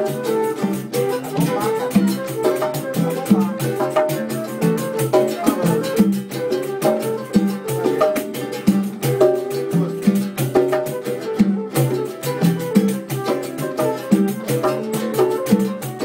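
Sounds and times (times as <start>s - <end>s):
acoustic guitar: 0.0s - 16.0s
berimbau: 0.0s - 16.0s
conga drums: 0.0s - 16.0s
hand frame drum: 0.0s - 16.0s
transverse flute: 0.0s - 16.0s.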